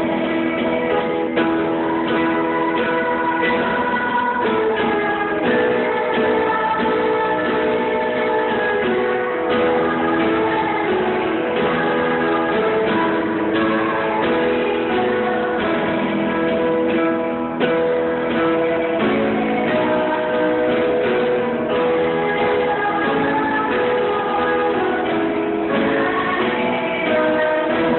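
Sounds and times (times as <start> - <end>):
held notes: 0.0 - 27.9
strummed guitars: 0.0 - 27.9.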